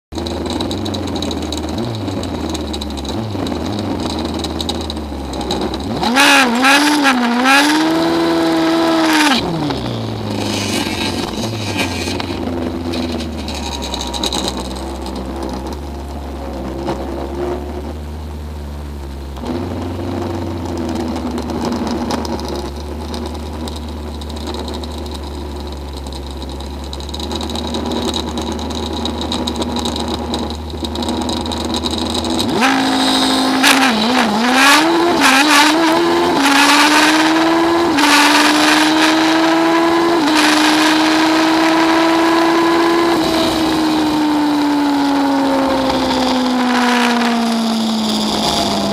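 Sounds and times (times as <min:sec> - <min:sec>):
motorcycle engine idling and revving: 0:00.1 - 0:48.9.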